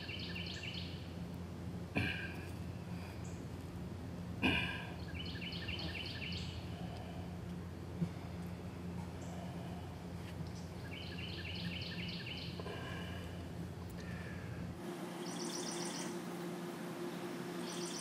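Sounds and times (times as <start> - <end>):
songbirds singing: 0.0 - 1.3, 2.0 - 3.6, 4.4 - 18.0
outdoor background noise: 0.0 - 18.0.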